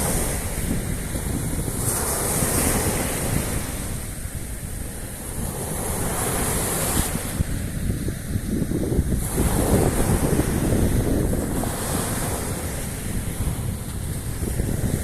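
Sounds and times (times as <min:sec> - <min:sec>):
sea surf washing on shore: 0:00.0 - 0:15.0
wind buffeting microphone: 0:00.0 - 0:15.0.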